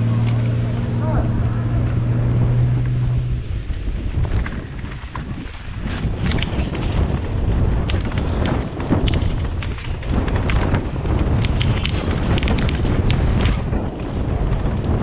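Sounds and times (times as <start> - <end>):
bike rattles and clicks: 0.0 - 15.0
tyres rumbling on dirt: 0.0 - 15.0
wind on microphone: 0.0 - 15.0.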